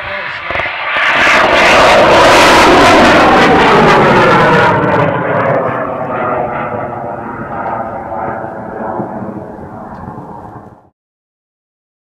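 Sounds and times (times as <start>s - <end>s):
rocket exhaust roar: 0.0s - 10.9s.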